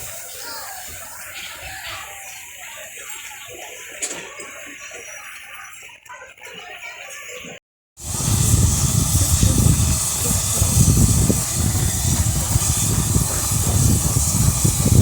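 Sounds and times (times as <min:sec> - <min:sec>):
steam locomotive hissing: 0:00.0 - 0:05.9, 0:08.0 - 0:15.0.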